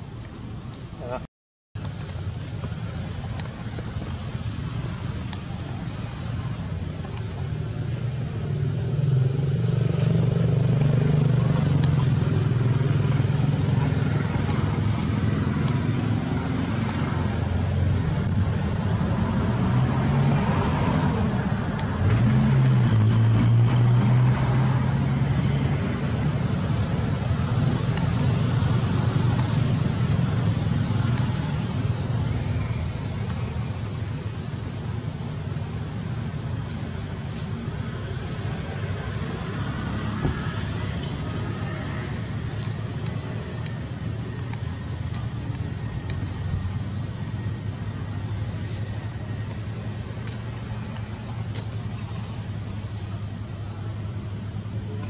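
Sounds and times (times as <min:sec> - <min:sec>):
low engine drone: 0:00.0 - 0:55.0.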